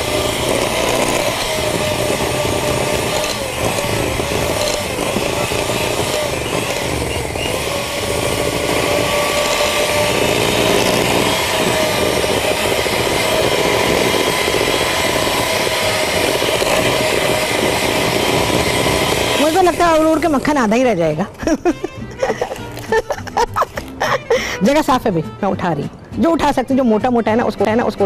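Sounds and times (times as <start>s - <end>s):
electric hand mixer running: 0.0s - 24.2s.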